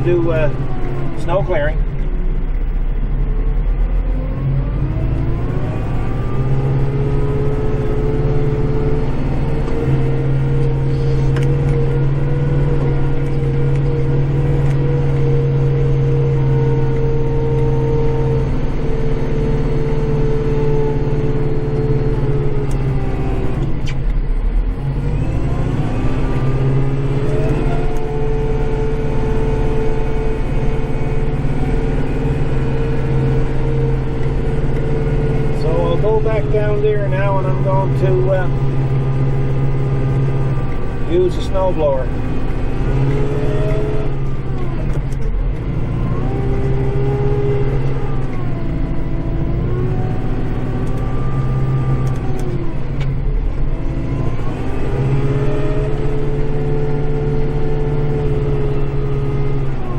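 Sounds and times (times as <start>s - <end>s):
tractor diesel engine at high revs: 0.0s - 59.9s.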